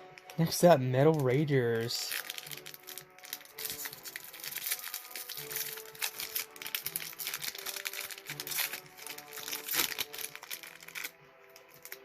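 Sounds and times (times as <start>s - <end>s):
background music with held notes: 0.0s - 12.0s
plastic wrapper crinkling: 0.0s - 12.0s.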